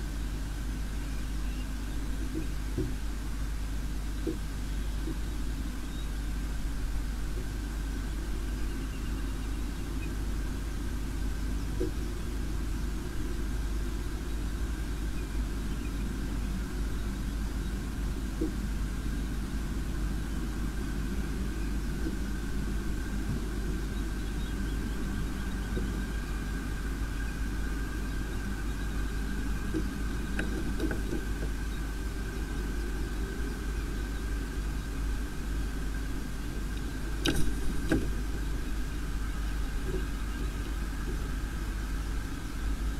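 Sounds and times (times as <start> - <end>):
faint high whine: 0.0 - 42.9
steady low rumble: 0.0 - 42.9.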